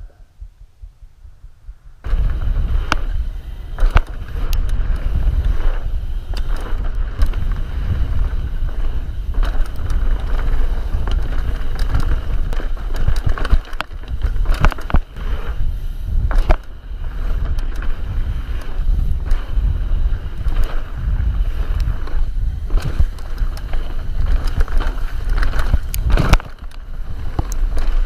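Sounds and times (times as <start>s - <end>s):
wind buffeting microphone: 0.6s - 28.0s
bike tyre noise on dirt: 1.9s - 28.0s
bike rattling over bumps: 2.0s - 28.0s.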